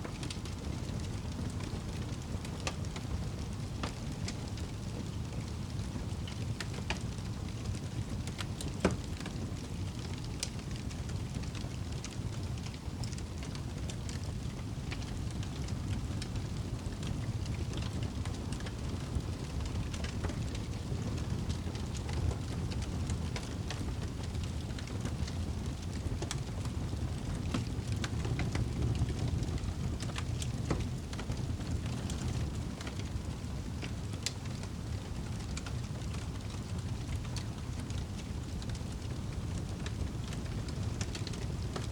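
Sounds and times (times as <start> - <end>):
campfire crackling and popping: 0.1 - 41.9.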